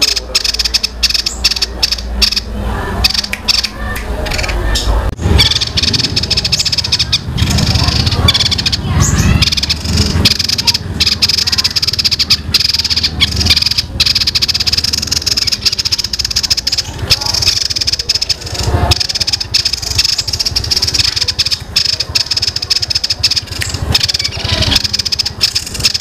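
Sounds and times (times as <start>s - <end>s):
songbird rattling chatter: 0.0s - 4.6s, 5.2s - 26.0s.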